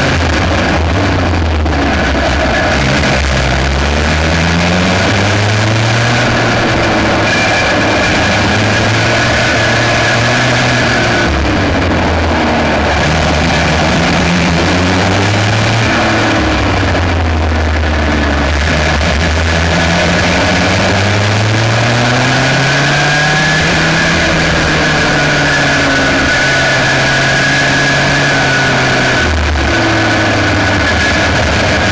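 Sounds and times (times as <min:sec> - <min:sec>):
kart engine revving: 0:00.0 - 0:31.9.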